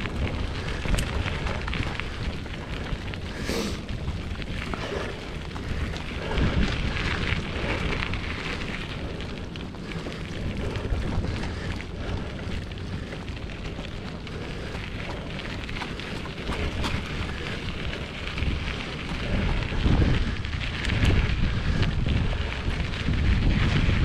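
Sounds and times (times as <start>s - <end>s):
wind buffeting the microphone: 0.0s - 24.0s.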